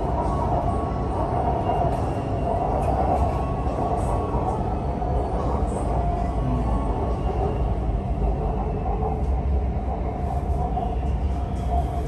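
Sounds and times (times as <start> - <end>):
train car rumble: 0.0 - 12.0.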